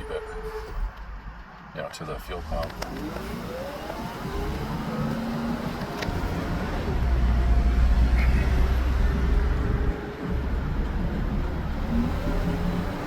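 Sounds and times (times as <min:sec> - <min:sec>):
road rumble: 0:00.0 - 0:13.0
truck engine running: 0:02.4 - 0:13.0.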